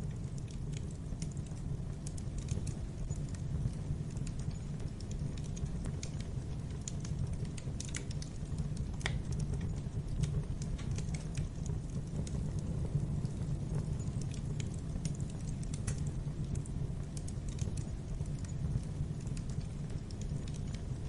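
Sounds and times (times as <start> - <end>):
fire popping and snapping: 0.0 - 21.0
low rumble of burning logs: 0.0 - 21.0.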